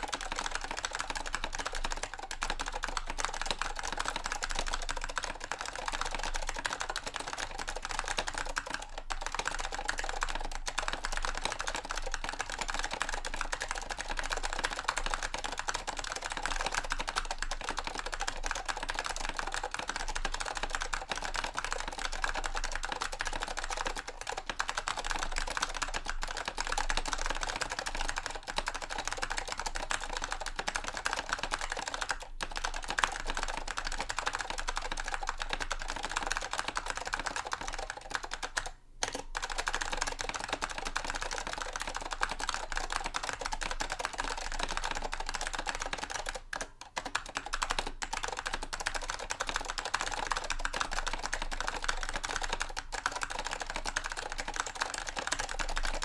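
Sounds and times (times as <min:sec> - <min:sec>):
fast typing on keyboard: 0:00.0 - 0:56.0.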